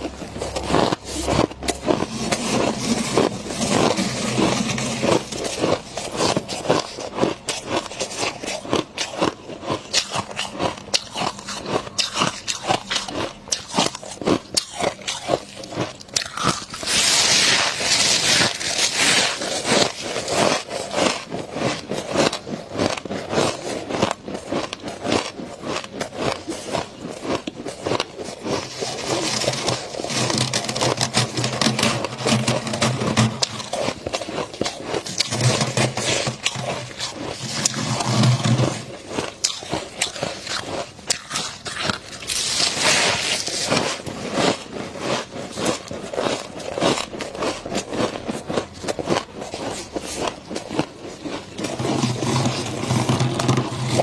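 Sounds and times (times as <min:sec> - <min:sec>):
frost being chewed: 0:00.0 - 0:54.0.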